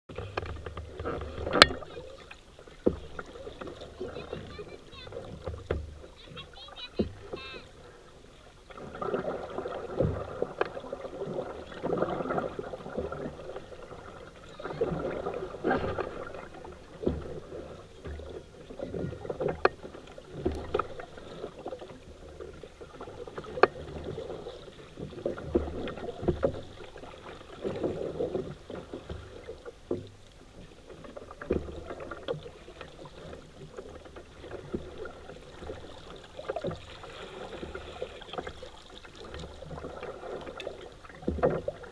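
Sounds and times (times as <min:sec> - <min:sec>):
paddle splashing in water: 0:00.1 - 0:41.9.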